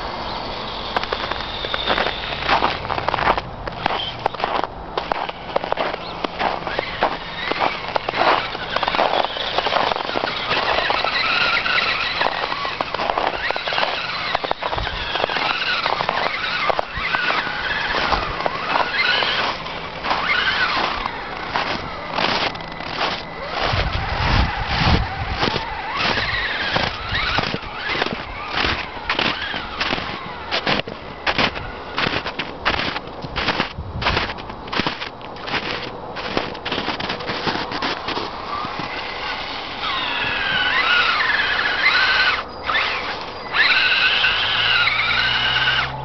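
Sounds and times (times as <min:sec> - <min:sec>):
electric motor and gears whining: 0:00.0 - 0:46.0
crunches in snow: 0:00.7 - 0:46.0.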